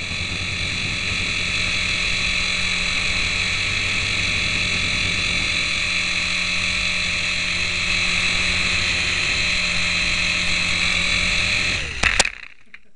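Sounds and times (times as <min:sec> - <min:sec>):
toy helicopter rotors whirring: 0:00.0 - 0:12.9.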